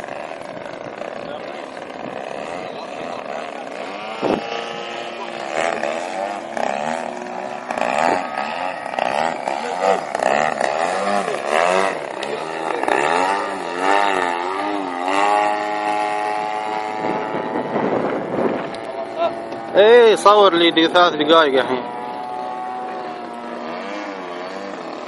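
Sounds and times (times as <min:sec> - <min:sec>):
model plane motor and propeller: 0:00.0 - 0:25.0.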